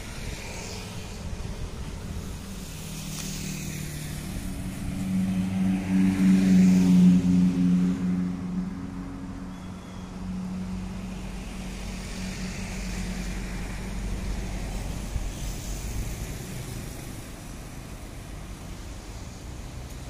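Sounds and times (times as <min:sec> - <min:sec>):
engine hum: 0:00.0 - 0:20.0
tyre and engine noise: 0:00.0 - 0:20.0.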